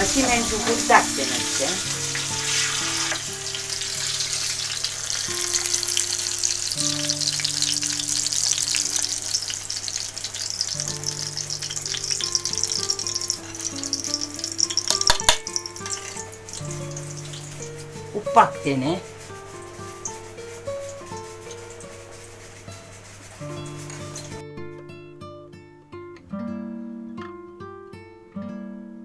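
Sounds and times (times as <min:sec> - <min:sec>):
hot oil sizzling: 0:00.0 - 0:24.5
soft background music: 0:00.0 - 0:29.0.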